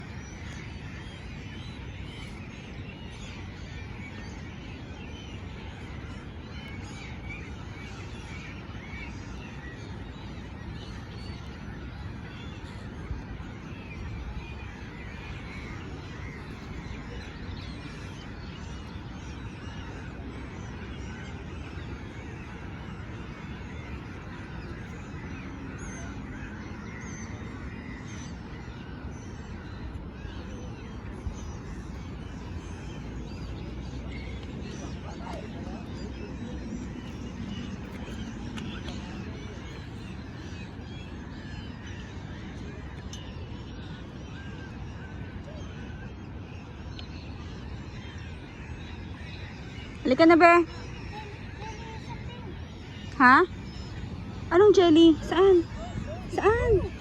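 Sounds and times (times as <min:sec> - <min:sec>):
birds chirping in chorus: 0:00.0 - 0:57.0
wind rumble on microphone: 0:00.0 - 0:57.0.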